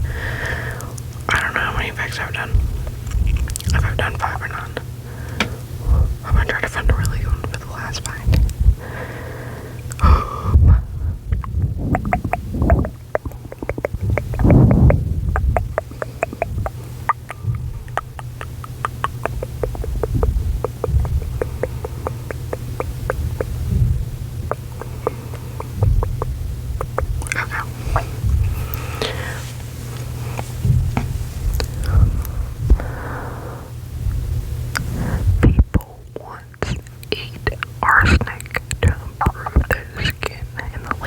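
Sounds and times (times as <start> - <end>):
low rumbling: 0.0 - 1.3, 2.4 - 35.8
steady low hum: 0.0 - 41.0.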